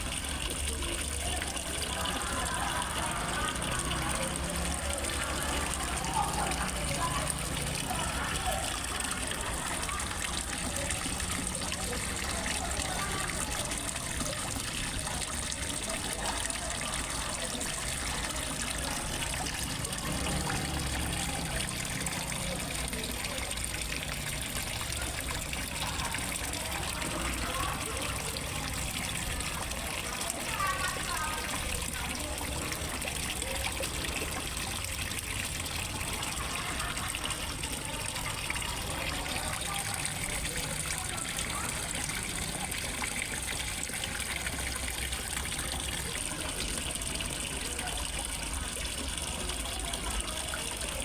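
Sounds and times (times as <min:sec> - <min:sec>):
water splashing into pond: 0:00.0 - 0:51.0.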